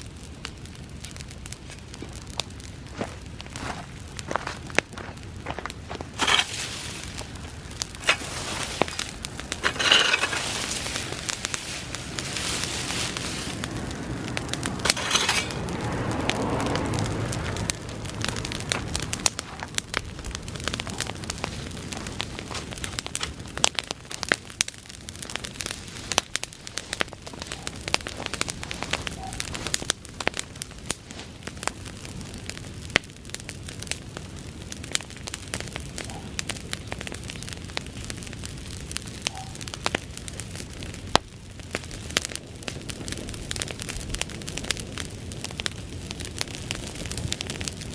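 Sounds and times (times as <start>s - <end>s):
fire rushing: 0.0s - 47.9s
grass fire crackling and popping: 0.0s - 47.9s.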